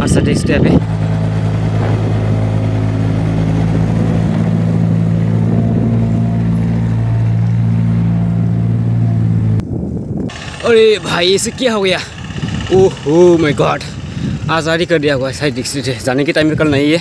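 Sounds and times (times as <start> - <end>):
engine-like hum: 0.0 - 17.0.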